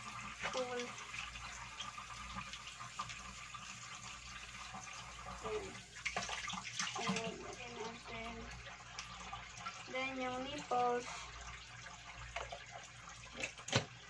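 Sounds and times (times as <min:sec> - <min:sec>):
tap water running: 0:00.0 - 0:14.0.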